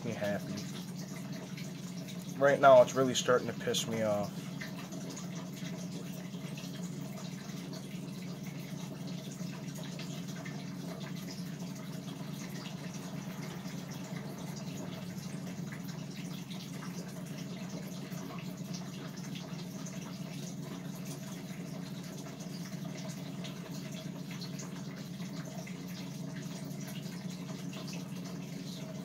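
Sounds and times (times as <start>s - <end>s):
electric fan whirring: 0.0s - 29.0s.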